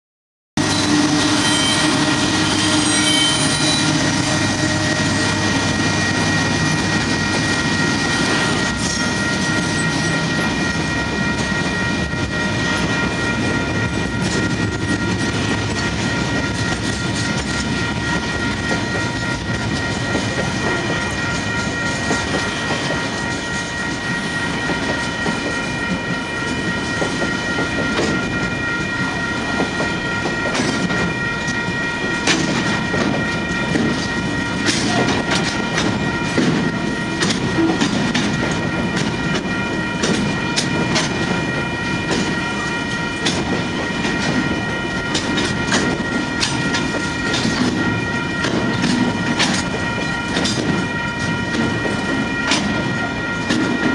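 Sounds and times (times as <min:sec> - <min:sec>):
diesel locomotive engines: 0:00.6 - 0:53.9
high-pitched ringing: 0:00.6 - 0:53.9
train wheels clattering: 0:00.6 - 0:53.9.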